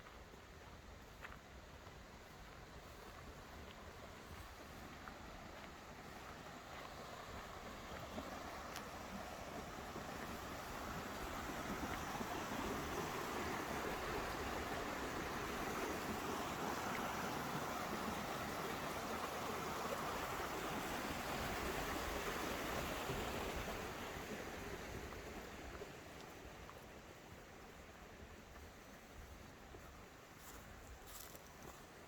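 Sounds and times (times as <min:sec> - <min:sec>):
stream rushing: 0:01.6 - 0:29.4.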